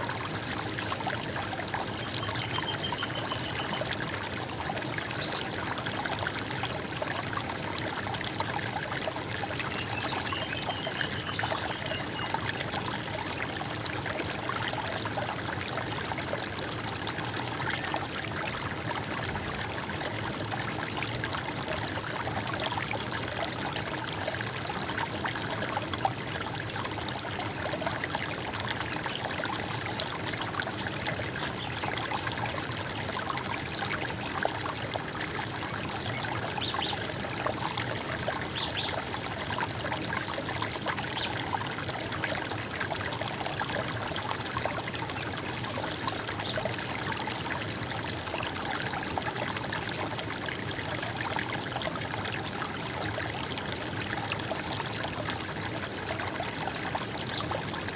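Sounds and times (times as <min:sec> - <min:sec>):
stream water over stones: 0:00.0 - 0:57.9.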